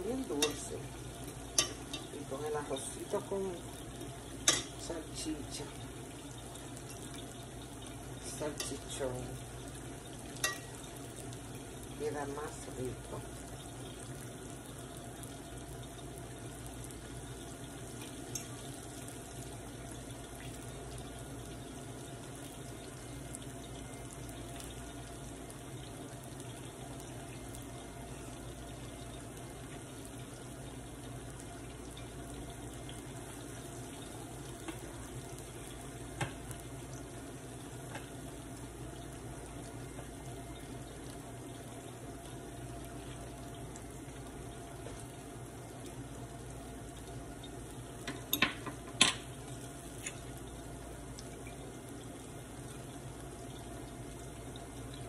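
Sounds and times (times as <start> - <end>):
plantain frying in hot oil: 0.0 - 55.0.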